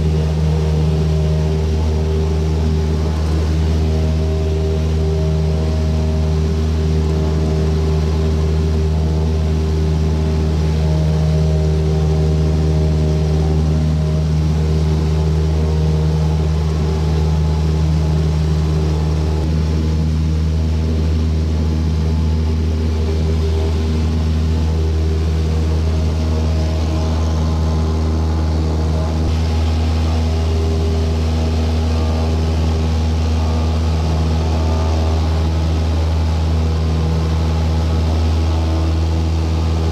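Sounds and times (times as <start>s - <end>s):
aircraft engine droning in cabin: 0.0s - 39.9s.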